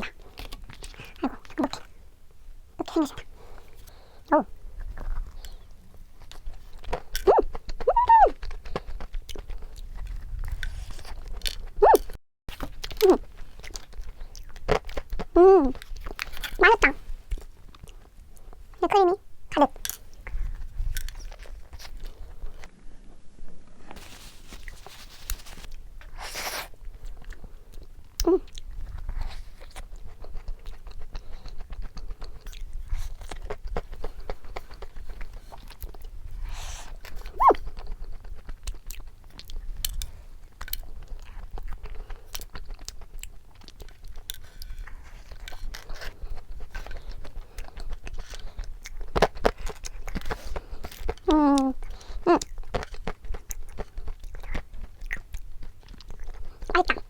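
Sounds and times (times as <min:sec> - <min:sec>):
person chewing crunchy pastry: 0:00.0 - 0:22.7, 0:24.0 - 0:57.0.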